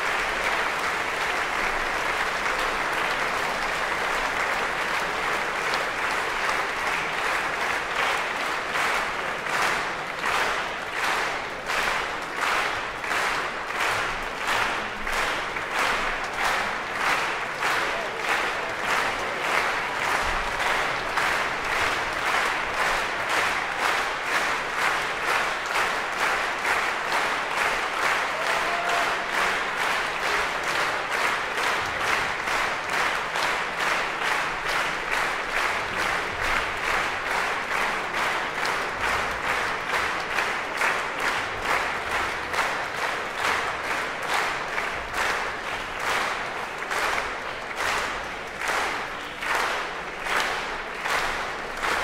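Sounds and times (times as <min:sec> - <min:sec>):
audience rhythmic clapping: 0:00.0 - 0:52.0.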